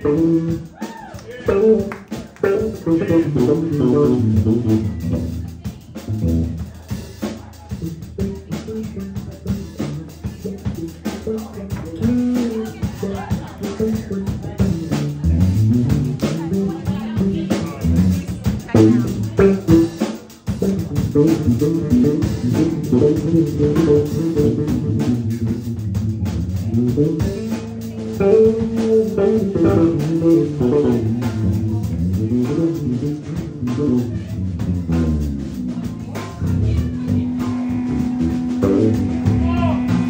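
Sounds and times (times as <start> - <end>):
bass guitar: 0.0 - 40.0
drum kit: 0.0 - 40.0.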